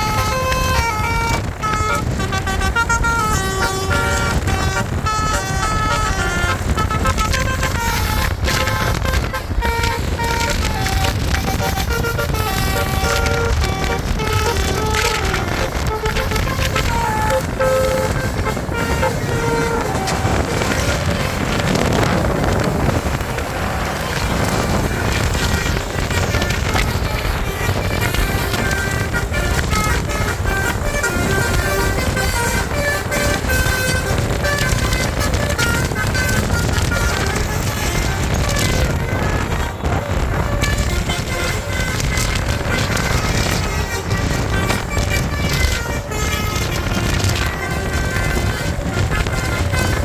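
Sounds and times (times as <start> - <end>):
bus horn playing a tune: 0.0 - 50.0
low engine rumble: 0.0 - 50.0
wind noise: 0.0 - 50.0.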